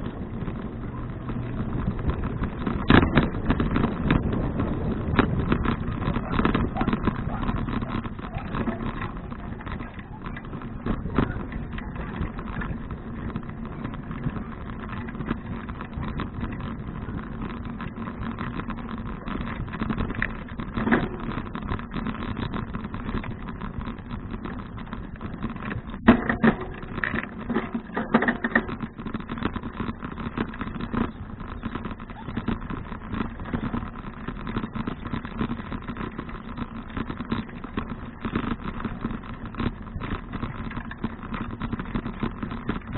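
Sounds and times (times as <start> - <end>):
bicycle rattling clicks: 0.0 - 42.9
bicycle tyre and road noise: 0.0 - 42.9.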